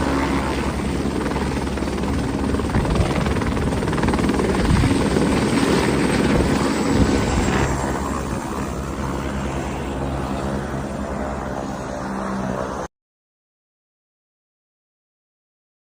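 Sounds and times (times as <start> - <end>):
helicopter rotor and engine: 0.0 - 12.9.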